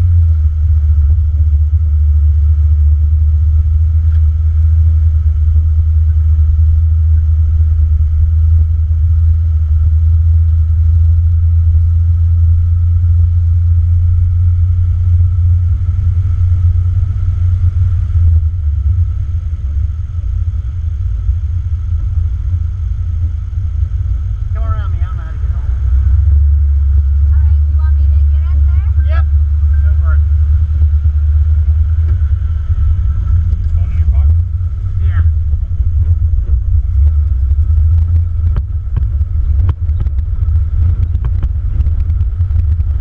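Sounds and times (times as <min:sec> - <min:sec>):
car engine rumbling: 0:00.0 - 0:43.0.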